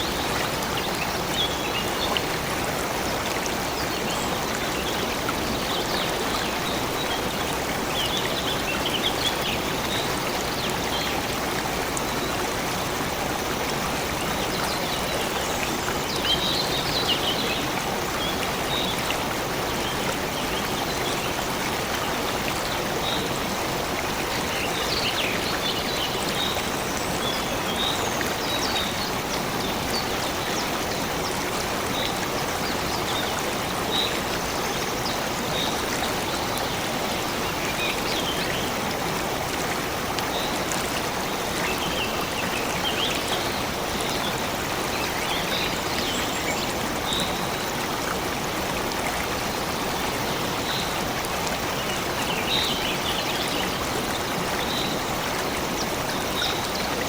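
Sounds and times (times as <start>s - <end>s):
stream water flowing and splashing: 0.0s - 57.0s.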